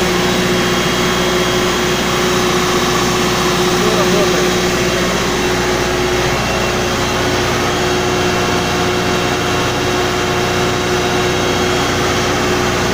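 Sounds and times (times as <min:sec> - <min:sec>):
diesel generator engine drone: 0:00.0 - 0:12.9.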